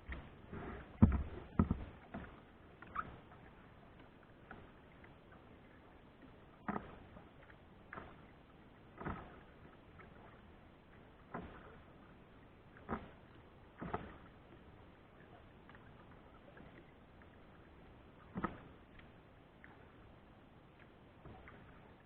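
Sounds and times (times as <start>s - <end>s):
paddle splashes and knocks: 0.0s - 22.0s.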